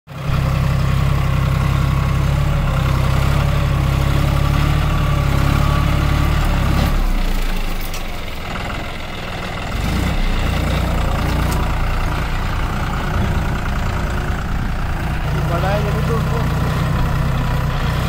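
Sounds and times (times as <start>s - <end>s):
tractor diesel engine under load: 0.1s - 18.0s.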